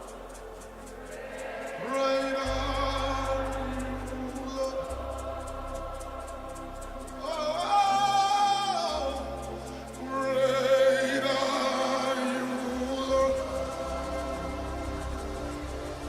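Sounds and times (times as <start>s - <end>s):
person singing long wordless notes: 0.0s - 16.0s
sustained worship music chords: 0.0s - 16.0s.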